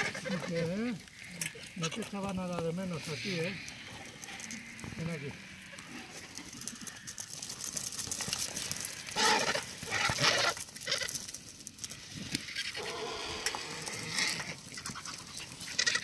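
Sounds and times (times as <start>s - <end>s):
vultures hissing: 0.0s - 7.6s, 8.4s - 11.2s, 12.0s - 16.0s.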